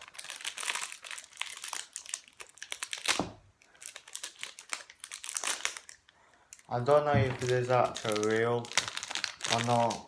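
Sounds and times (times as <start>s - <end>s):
plastic packet crinkling: 0.0s - 10.0s.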